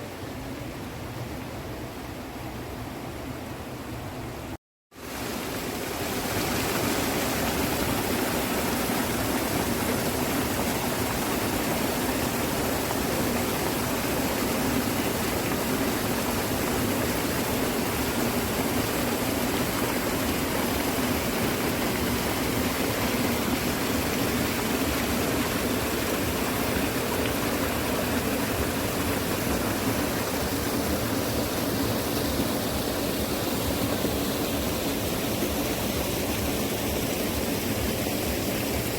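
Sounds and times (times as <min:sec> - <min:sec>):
water rushing in stream: 0:00.0 - 0:38.9.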